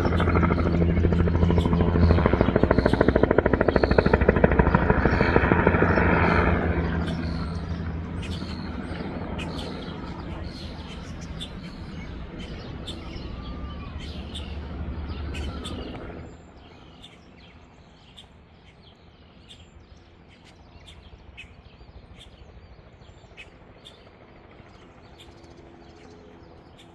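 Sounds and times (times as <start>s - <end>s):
helicopter rumble: 0.0s - 26.9s
small birds chirping: 0.0s - 26.9s.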